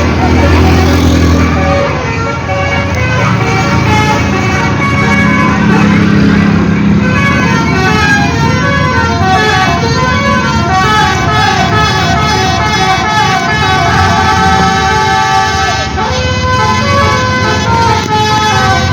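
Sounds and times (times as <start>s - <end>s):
multi-tone bus horn melody: 0.0s - 18.9s.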